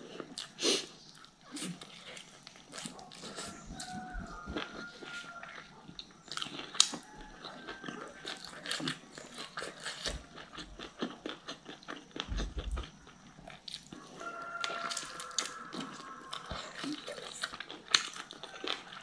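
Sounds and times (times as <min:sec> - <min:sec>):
person chewing chicken on the bone: 0:00.1 - 0:19.0.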